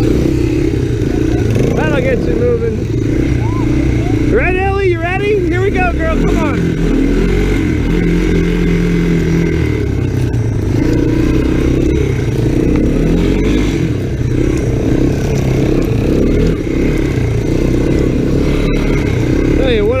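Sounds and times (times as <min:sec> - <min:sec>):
three-wheeler engine running: 0:00.0 - 0:20.0.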